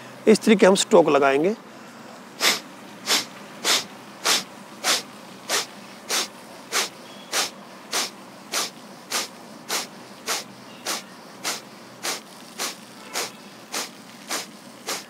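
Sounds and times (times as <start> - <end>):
forceful nasal exhalations: 1.7 - 15.0.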